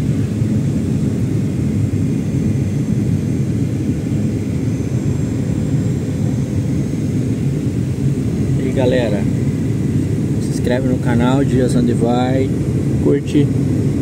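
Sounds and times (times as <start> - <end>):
faint high whine: 0.0 - 14.0
jet engine and airflow rumble: 0.0 - 14.0.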